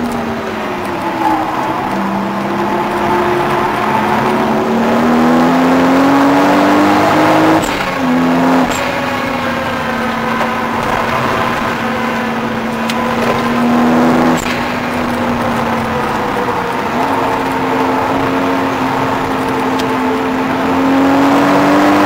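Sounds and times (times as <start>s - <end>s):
car engine revving through gears: 0.0s - 22.0s.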